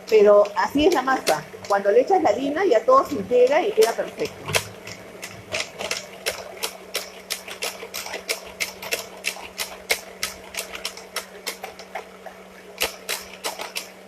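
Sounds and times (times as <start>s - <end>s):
electric hand mixer running: 0.0s - 14.0s
mixer beaters clacking: 0.0s - 14.0s.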